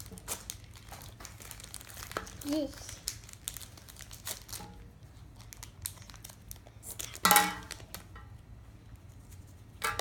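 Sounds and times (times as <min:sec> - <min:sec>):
foil pack crinkling and tearing: 0:00.0 - 0:08.1.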